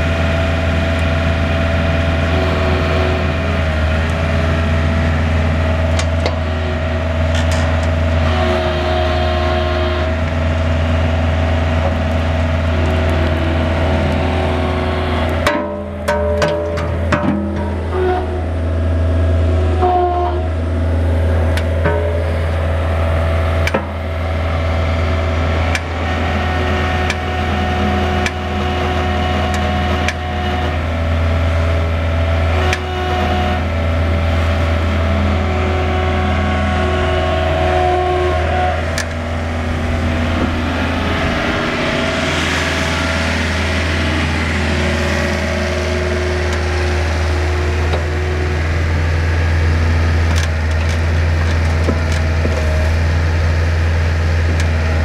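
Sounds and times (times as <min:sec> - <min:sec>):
excavator diesel engine running: 0:00.0 - 0:55.0
high whine: 0:00.0 - 0:55.0.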